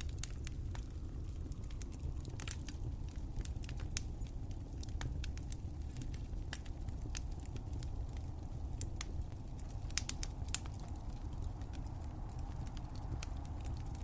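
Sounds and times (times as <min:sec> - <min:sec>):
low rumble of burning fire: 0:00.0 - 0:14.0
wood fire crackling and popping: 0:00.0 - 0:14.0.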